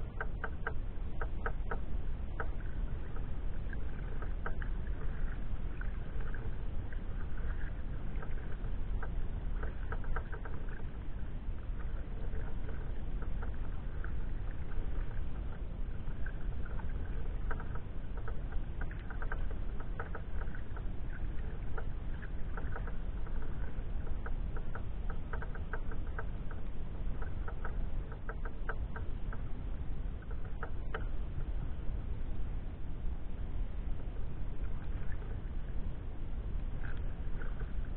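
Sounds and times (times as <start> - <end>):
water lapping against hull: 0.0 - 37.9
wind rumble on microphone: 0.0 - 37.9.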